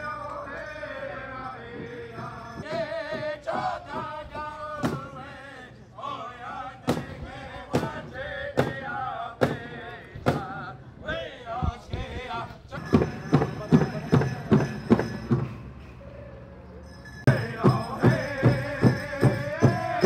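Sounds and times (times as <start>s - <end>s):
men singing together: 0.0s - 15.2s, 17.2s - 20.0s.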